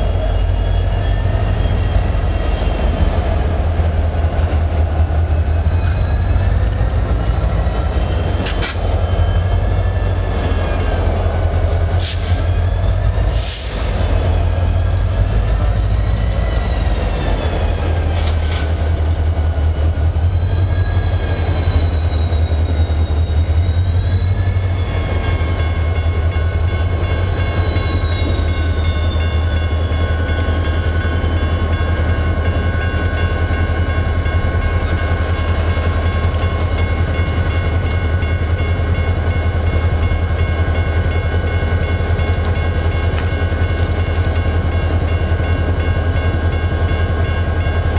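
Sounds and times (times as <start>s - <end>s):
train wheel squeal: 0.0s - 47.9s.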